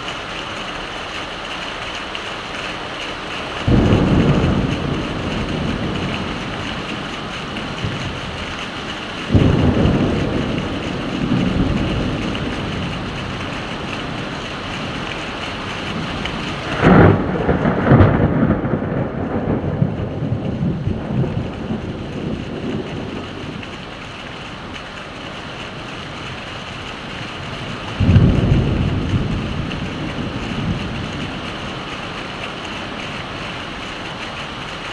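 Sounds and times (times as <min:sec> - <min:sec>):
heavy rain falling: 0:00.0 - 0:34.9
thunder rumbling: 0:03.0 - 0:34.9.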